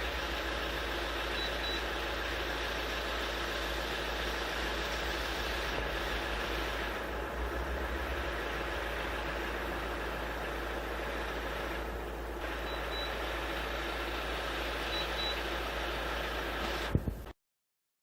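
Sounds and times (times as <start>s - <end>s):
air conditioner humming: 0.0s - 17.3s.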